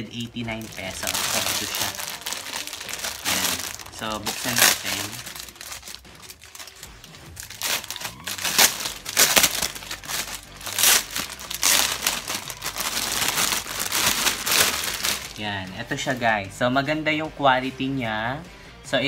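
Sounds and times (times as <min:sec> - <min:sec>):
plastic bag crinkling: 0:00.0 - 0:16.3.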